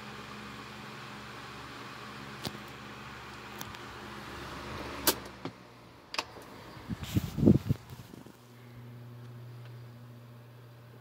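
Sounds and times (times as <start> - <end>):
table fan running: 0.0 - 11.0.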